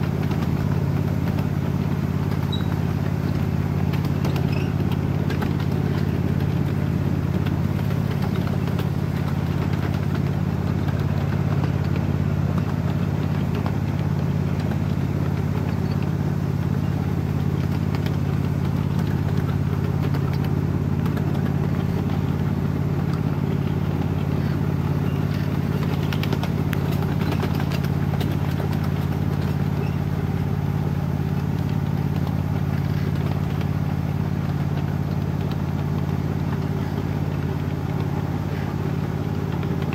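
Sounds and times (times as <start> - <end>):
wheels clattering on rails: 0.0 - 39.9
miniature train motor drone: 2.2 - 39.9.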